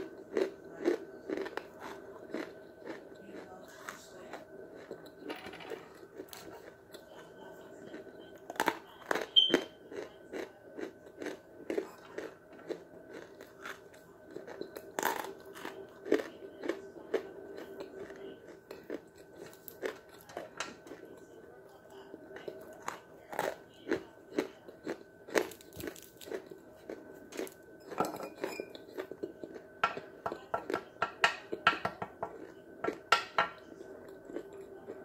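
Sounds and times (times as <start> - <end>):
chewing and crunching chalk: 0.0 - 30.9, 32.3 - 35.0.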